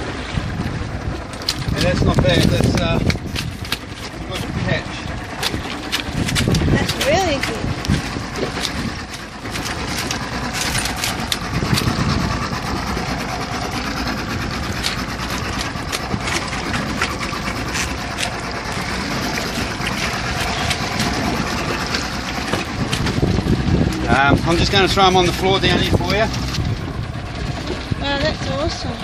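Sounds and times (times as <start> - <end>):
outboard motor idling: 0.0 - 29.0.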